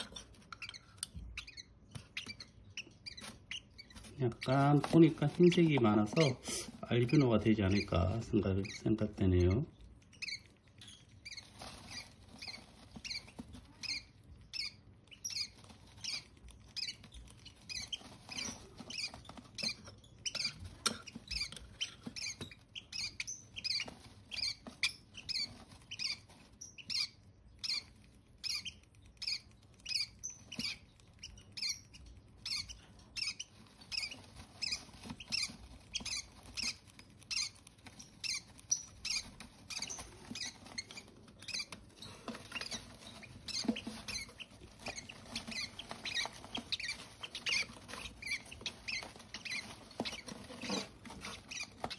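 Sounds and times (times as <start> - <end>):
parrot chick squeaky peeps: 0.0 - 51.9.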